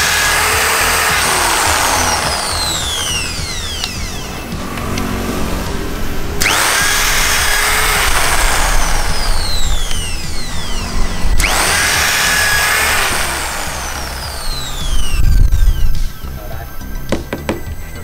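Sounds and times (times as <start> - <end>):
boring machine drilling: 0.0 - 17.8.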